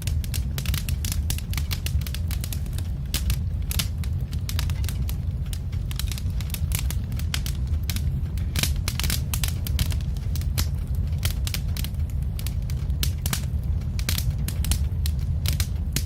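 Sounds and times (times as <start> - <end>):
log fire crackling: 0.0 - 16.0
low rumble: 0.0 - 16.0.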